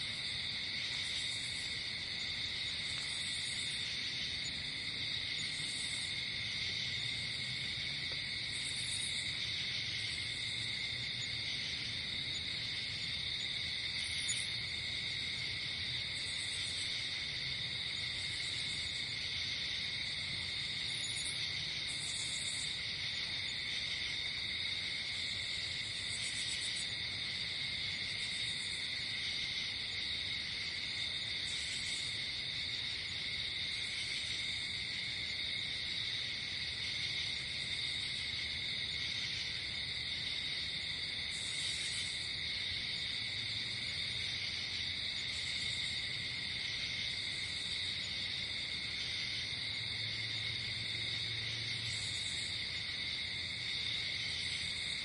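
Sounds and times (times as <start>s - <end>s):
insect trill: 0.0s - 55.0s.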